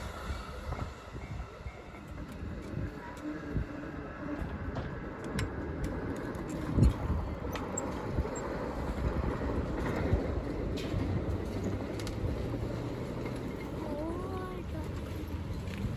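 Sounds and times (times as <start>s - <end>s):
train wheels rumbling on rail: 0.0s - 15.9s.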